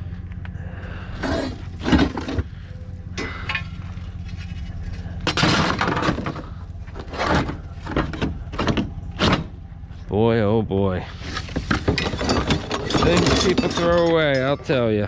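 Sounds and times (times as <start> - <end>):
steady low hum: 0.0 - 15.0
scrap metal clanking and rattling: 1.2 - 9.7, 11.1 - 15.0.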